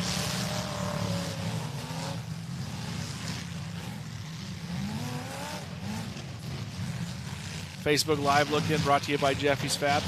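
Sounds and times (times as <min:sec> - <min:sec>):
car engines rumbling: 0:00.0 - 0:10.0
engine revving: 0:00.0 - 0:10.0.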